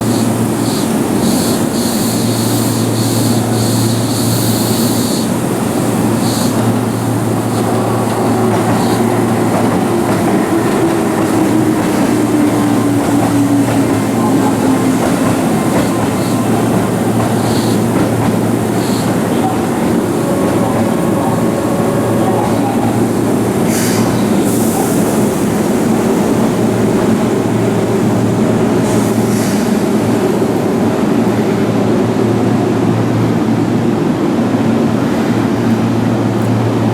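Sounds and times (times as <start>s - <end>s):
electric train rumbling hum: 0.0s - 36.9s.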